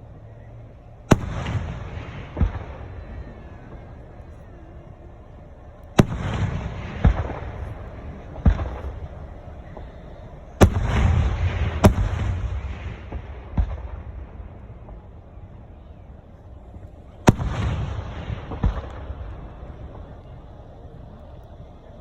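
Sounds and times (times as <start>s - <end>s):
rolling rumble and crackle: 0.0s - 22.0s
fireworks booming: 0.8s - 22.0s.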